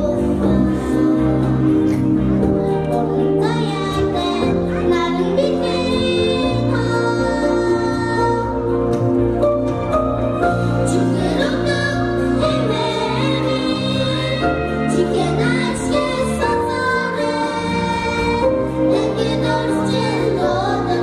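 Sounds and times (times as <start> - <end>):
children singing into microphones: 0.0 - 8.5, 11.1 - 21.0
instrumental accompaniment: 0.0 - 21.0.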